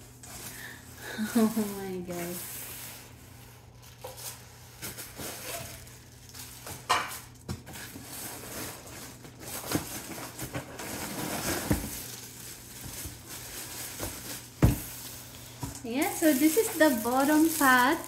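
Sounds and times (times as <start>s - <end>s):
cardboard and plastic rustling: 0.0s - 18.0s.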